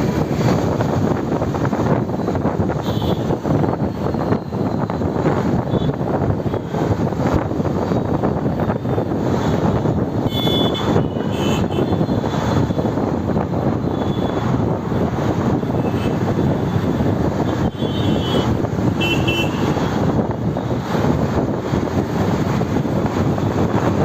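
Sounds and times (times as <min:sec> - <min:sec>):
wind rush on microphone: 0:00.0 - 0:24.0.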